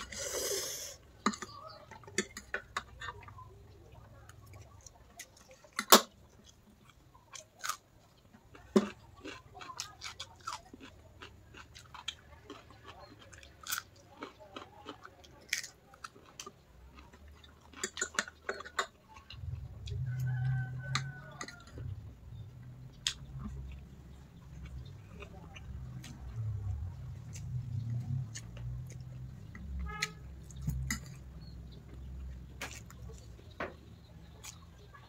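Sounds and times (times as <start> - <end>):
chewing noodles: 0.0 - 35.0.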